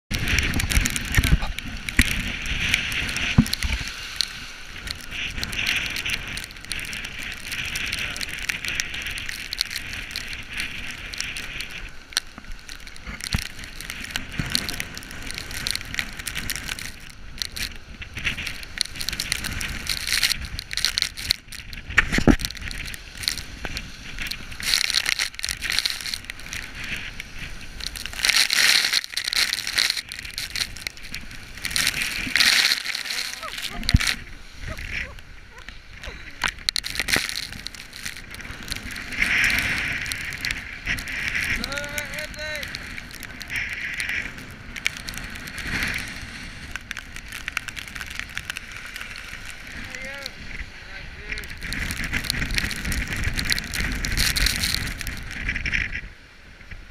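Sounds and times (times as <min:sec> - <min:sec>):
wind and rain crackling hiss: 0:00.1 - 0:56.9
wind buffeting thumps: 0:00.1 - 0:56.9.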